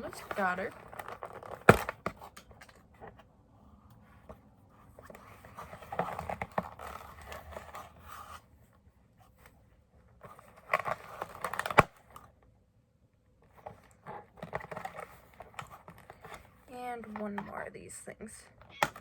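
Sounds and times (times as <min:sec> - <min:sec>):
packaging rustling and scraping: 0:00.0 - 0:12.4, 0:13.4 - 0:19.0.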